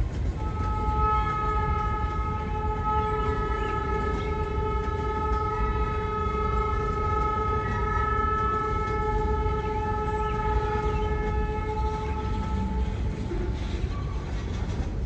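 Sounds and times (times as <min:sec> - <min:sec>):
train rumbling: 0:00.0 - 0:15.0
locomotive air horn blast: 0:00.4 - 0:13.9.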